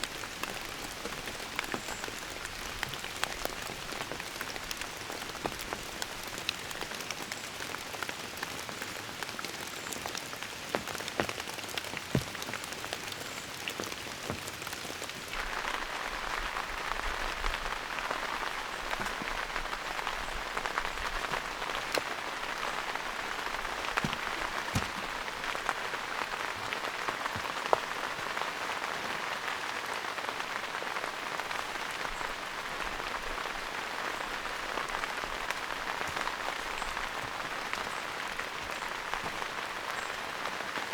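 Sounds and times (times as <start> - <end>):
sharp taps of raindrops: 0.0 - 40.9
steady rain falling: 0.0 - 40.9.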